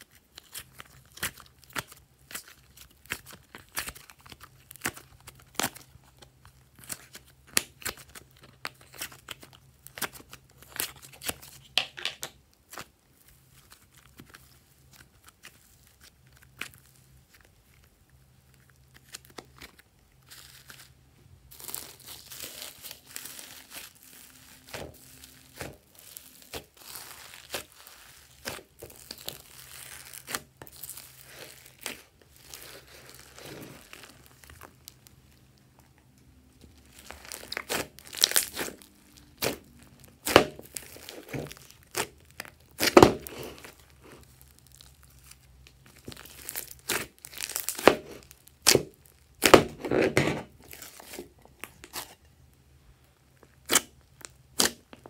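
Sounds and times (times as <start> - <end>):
slime crackling and squelching: 0.0 - 55.0.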